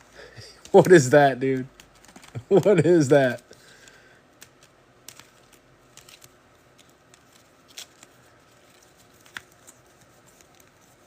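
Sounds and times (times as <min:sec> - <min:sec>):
trading cards clicking and rustling: 0:00.2 - 0:11.0.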